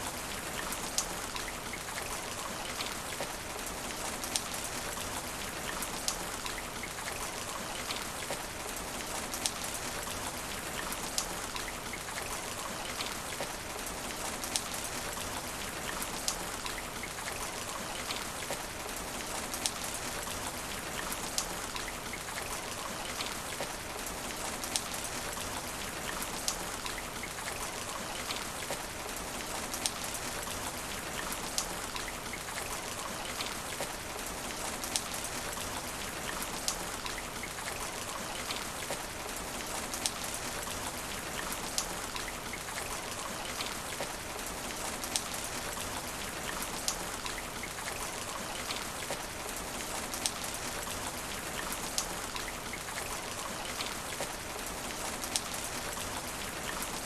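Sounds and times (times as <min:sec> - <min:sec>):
rain falling on asphalt: 0:00.0 - 0:57.0.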